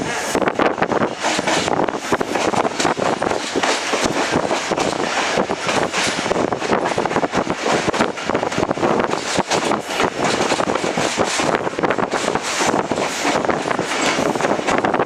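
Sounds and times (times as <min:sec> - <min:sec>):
wheels clattering on rails: 0:00.0 - 0:15.0
wind rushing: 0:00.0 - 0:15.0.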